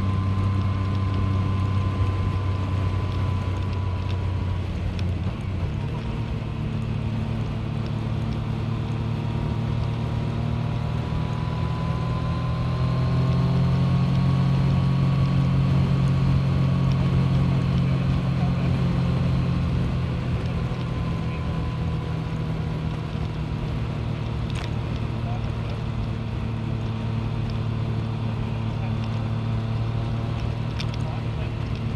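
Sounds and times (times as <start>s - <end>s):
motorcycle engine running: 0.0s - 31.9s
wind and road noise: 0.0s - 31.9s.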